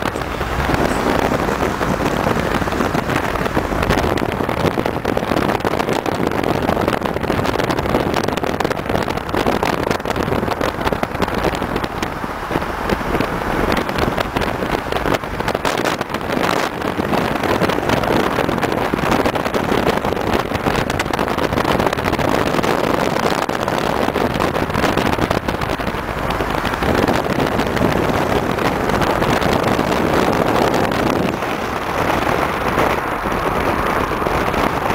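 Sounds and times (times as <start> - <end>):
car engines running: 0.0 - 34.9
road and wind noise: 0.0 - 34.9.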